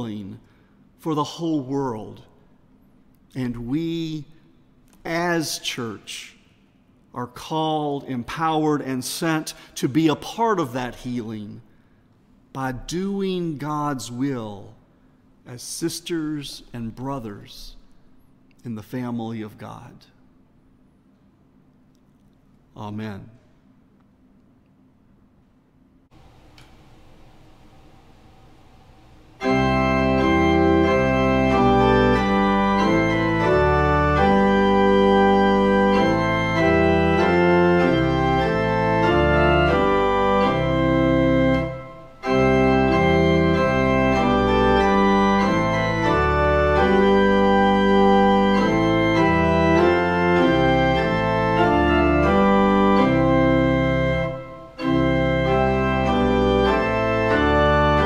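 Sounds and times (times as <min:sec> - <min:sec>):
pipe organ chords: 0:00.0 - 0:21.4, 0:26.1 - 0:58.0.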